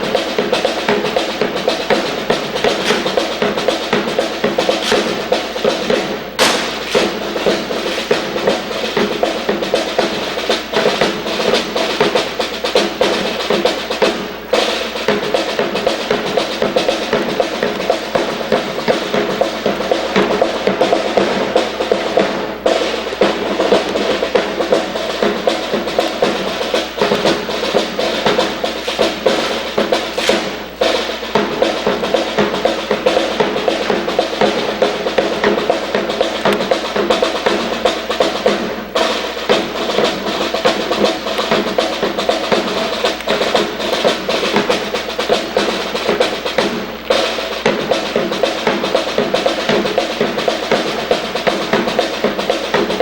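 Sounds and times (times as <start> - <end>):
bass drum beats: 0.0 - 53.0
marching drums: 0.0 - 53.0
snare drum rolls: 0.0 - 53.0.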